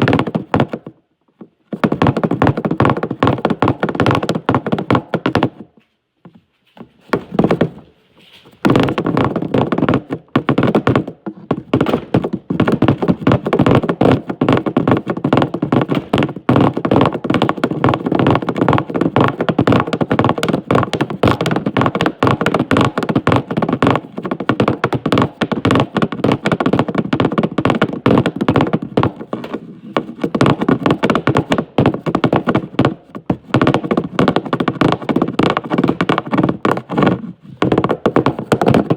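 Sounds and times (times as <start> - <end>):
rapid tapping and knocking: 0.0 - 1.0, 1.7 - 5.7, 8.6 - 38.9.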